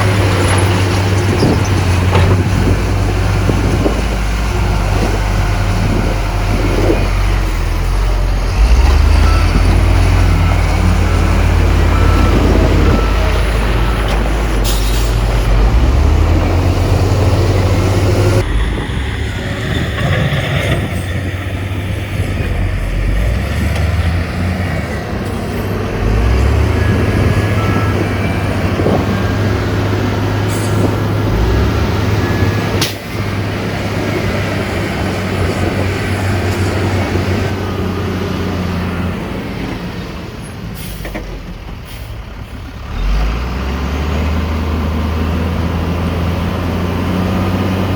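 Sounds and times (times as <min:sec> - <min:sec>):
heavy diesel engines rumbling: 0:00.0 - 0:47.9.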